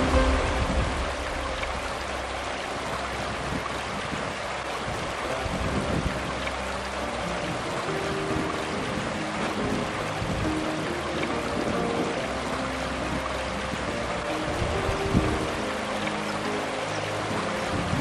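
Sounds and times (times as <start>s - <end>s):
background music: 0.0s - 18.0s
river rushing over rocks: 0.0s - 18.0s.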